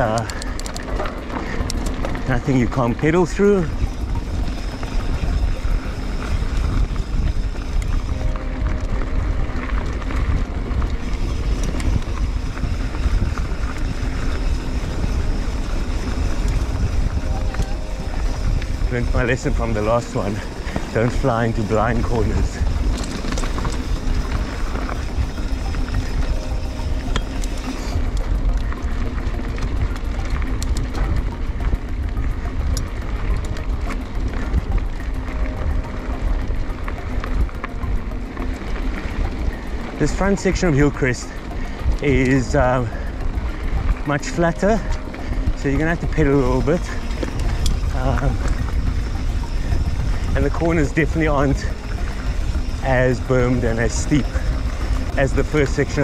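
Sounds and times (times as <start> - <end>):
bike tyres rolling on rocky dirt: 0.0 - 56.0
small clicks and rattles: 0.0 - 56.0
wind on microphone: 0.0 - 56.0.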